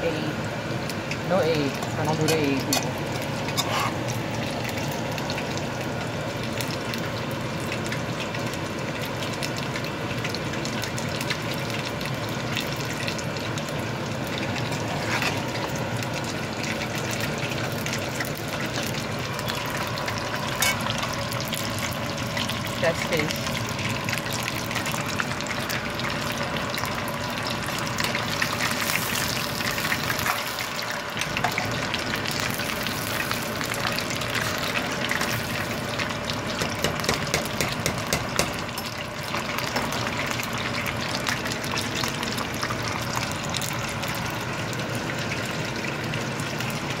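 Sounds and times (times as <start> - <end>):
fish deep-frying in oil: 0.0 - 47.0.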